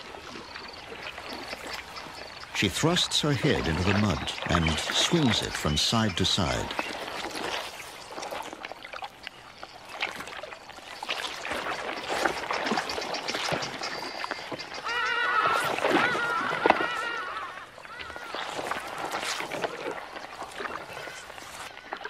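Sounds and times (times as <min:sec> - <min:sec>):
mud and water splashing: 0:00.0 - 0:22.0.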